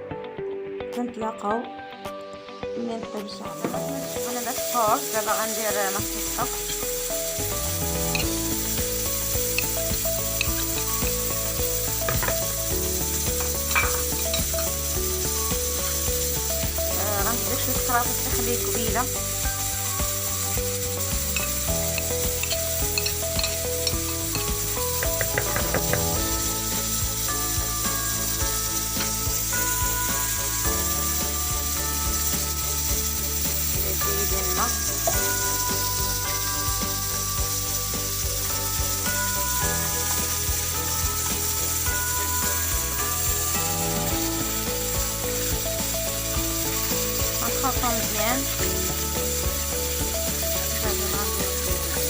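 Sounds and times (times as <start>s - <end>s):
background music with held notes: 0.0s - 52.0s
food sizzling in a pot: 1.6s - 52.0s.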